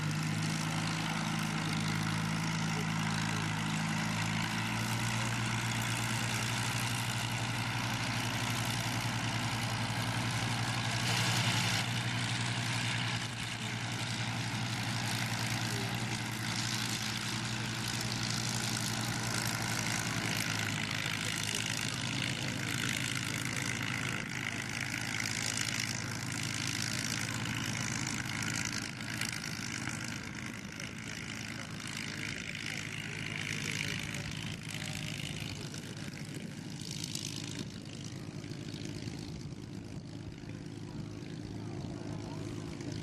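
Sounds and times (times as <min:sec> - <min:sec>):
propeller engine drone: 0:00.0 - 0:43.0.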